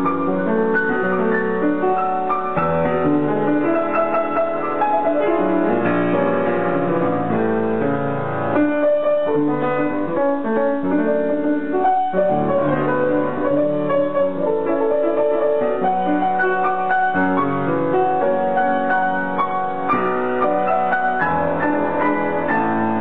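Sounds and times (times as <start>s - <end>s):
grand piano chords and melody: 0.0s - 23.0s.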